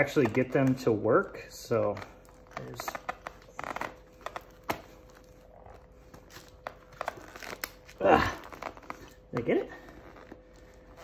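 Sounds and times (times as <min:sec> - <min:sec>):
strap rustling: 0:00.0 - 0:11.0.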